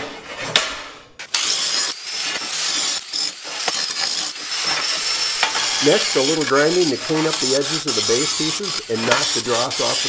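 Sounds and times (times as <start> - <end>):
angle grinder on steel: 1.2 - 10.0.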